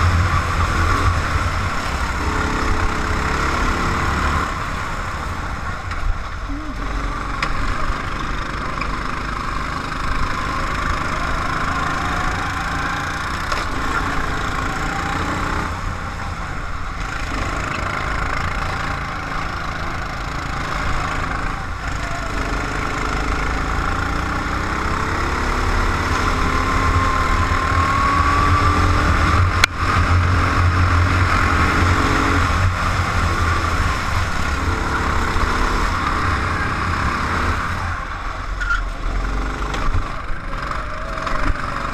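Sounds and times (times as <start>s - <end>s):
racing car engine: 0.0s - 41.9s.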